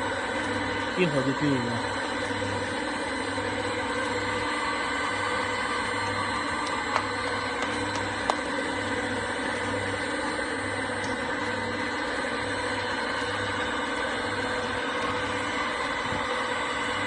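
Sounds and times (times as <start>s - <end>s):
mixer machine hum with low throb: 0.0s - 17.0s.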